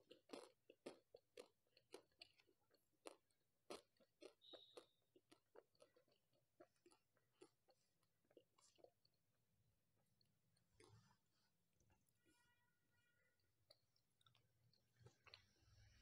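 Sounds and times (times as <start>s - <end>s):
mouth chewing wet clicks: 0.0s - 9.4s, 11.8s - 15.9s.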